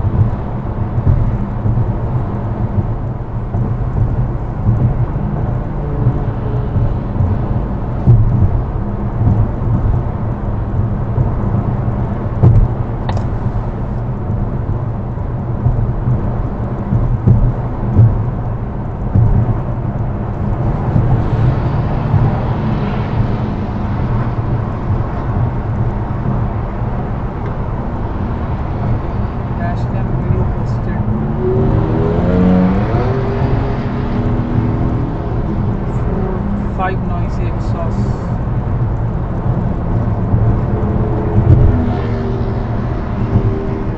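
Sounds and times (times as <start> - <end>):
cars passing with loud exhausts: 0.0 - 43.9
highway driving rumble: 0.0 - 43.9.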